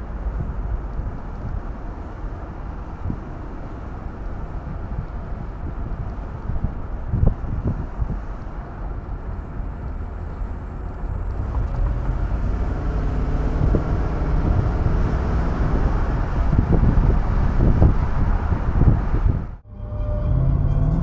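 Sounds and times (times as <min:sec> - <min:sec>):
car engine while driving: 0:00.0 - 0:21.0
road noise: 0:00.0 - 0:21.0
wind noise: 0:00.0 - 0:21.0.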